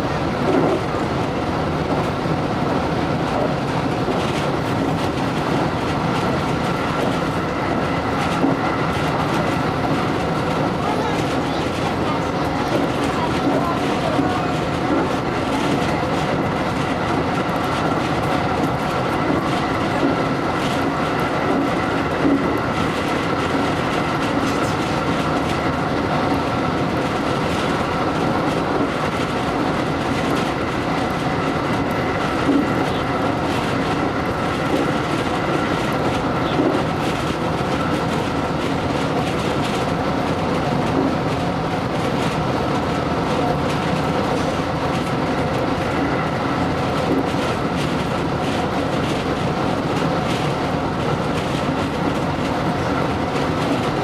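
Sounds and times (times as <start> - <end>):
train wheels rumbling on rails: 0.0 - 54.0
rail-joint clicks: 0.4 - 1.1, 1.9 - 54.0.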